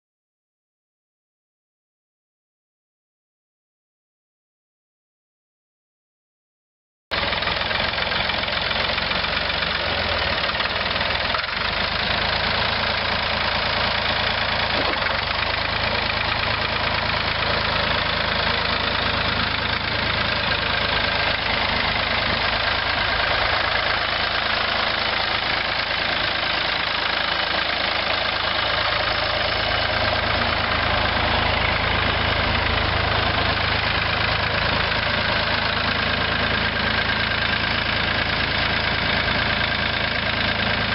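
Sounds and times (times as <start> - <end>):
tractor diesel engine running: 7.1 - 40.9.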